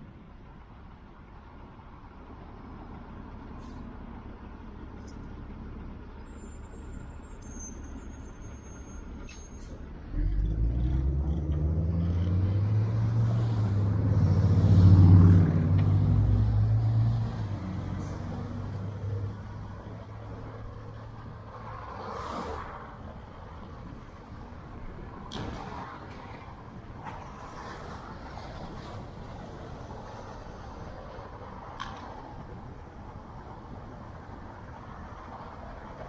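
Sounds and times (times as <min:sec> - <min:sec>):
heavy vehicle engine droning: 0:00.2 - 0:36.0.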